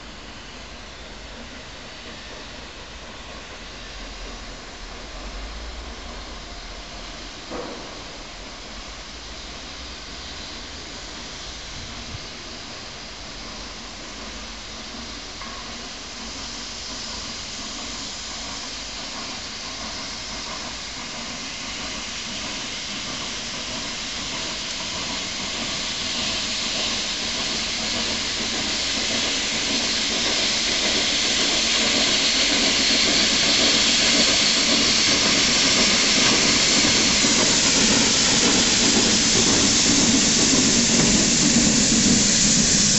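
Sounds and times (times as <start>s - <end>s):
steam locomotive hissing steam: 0.0s - 42.9s.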